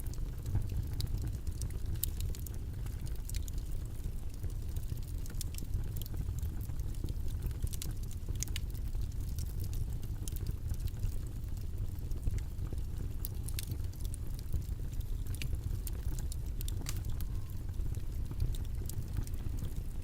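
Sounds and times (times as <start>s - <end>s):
crackles and clicks: 0.0s - 20.0s.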